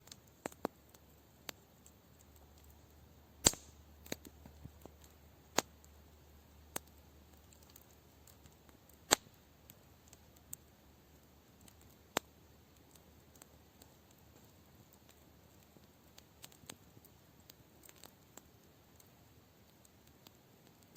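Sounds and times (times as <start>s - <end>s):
faint steady hiss: 0.0s - 20.9s
wood fire crackling: 0.0s - 20.9s.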